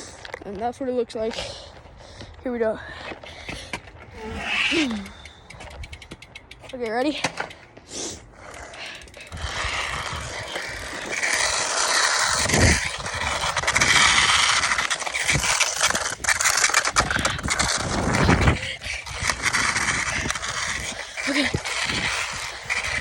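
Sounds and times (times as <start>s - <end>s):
toy car rolling and scraping: 3.8s - 23.0s.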